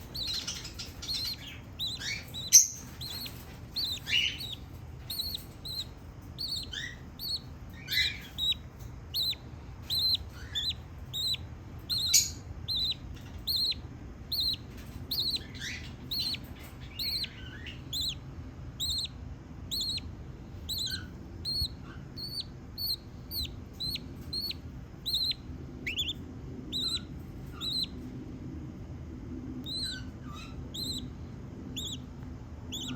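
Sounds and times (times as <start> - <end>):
budgerigar chirping: 0.0 - 28.0, 29.6 - 32.9.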